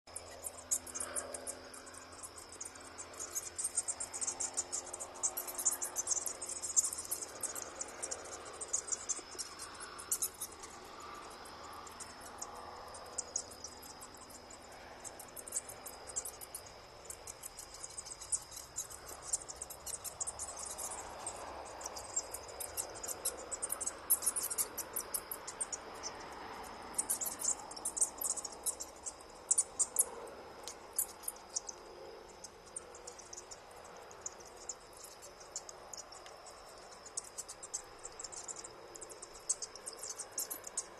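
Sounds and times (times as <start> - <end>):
bats chittering: 0.1 - 40.9.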